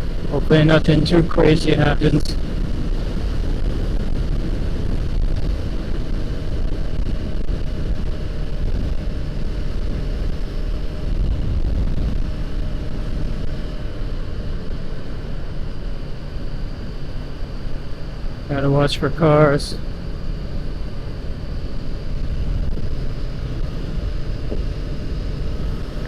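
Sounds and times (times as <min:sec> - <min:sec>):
wind rumbling on microphone: 0:00.0 - 0:18.5, 0:19.8 - 0:26.0
motorcycle engine running: 0:00.0 - 0:26.0.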